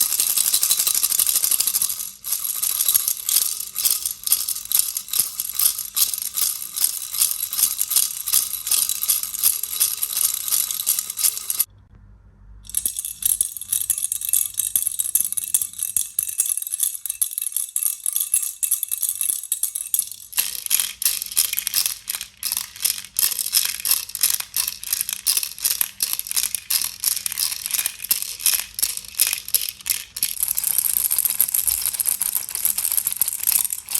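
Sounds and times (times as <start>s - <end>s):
baby rattle shaking: 0.0s - 11.7s, 12.7s - 33.9s.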